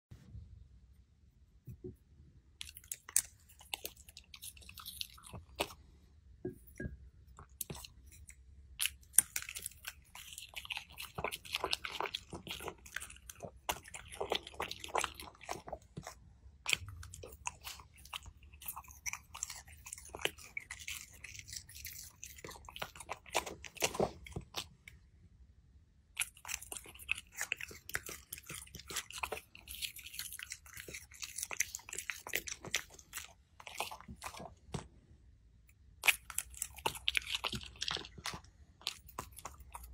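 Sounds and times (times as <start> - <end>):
dog chewing with crisp crunches: 2.6 - 6.0, 7.5 - 24.8, 26.2 - 34.9, 36.0 - 39.9.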